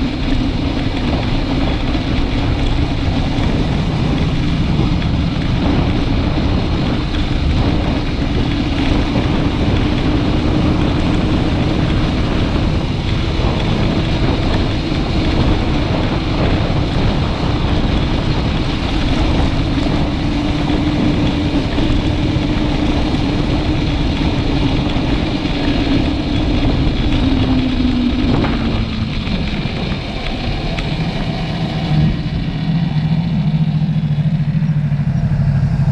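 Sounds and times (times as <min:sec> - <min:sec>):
motorcycle riding: 0:00.0 - 0:35.9
wind rushing over microphone: 0:00.0 - 0:35.9.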